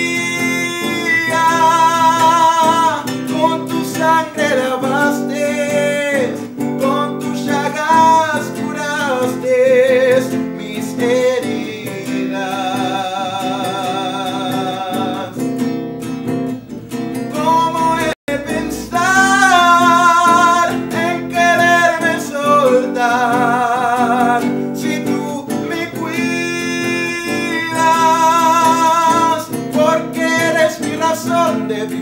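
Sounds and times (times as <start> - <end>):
man singing: 0.0 - 15.6, 17.3 - 32.0
classical guitar chords: 0.0 - 32.0.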